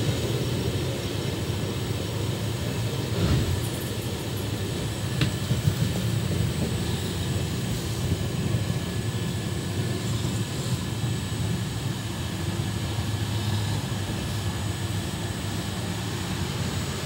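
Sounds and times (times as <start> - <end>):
train coach rumbling on rails: 0.0 - 17.0.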